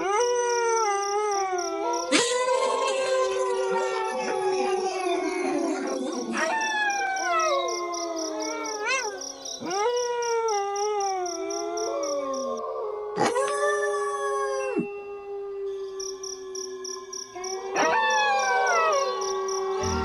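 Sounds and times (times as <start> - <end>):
insects chirping: 0.0 - 12.6, 15.7 - 20.0
wolves howling: 0.0 - 20.0.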